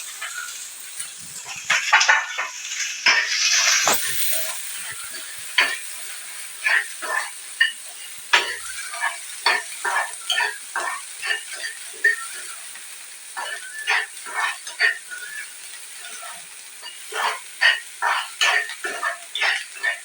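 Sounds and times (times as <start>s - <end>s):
food frying in hot oil: 0.0s - 20.0s.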